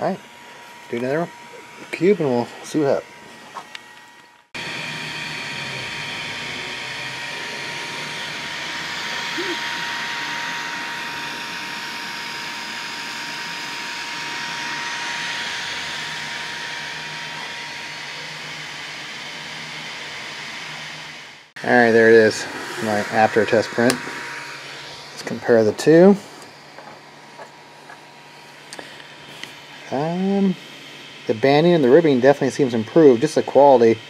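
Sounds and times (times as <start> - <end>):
faint steady whine: 0.0 - 34.0
printer fans and motors whirring: 0.0 - 34.0.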